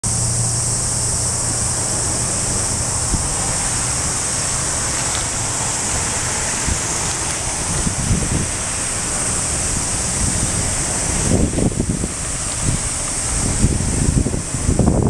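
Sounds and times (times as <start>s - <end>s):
high hiss: 0.0s - 15.0s
tram running noise: 0.0s - 15.0s.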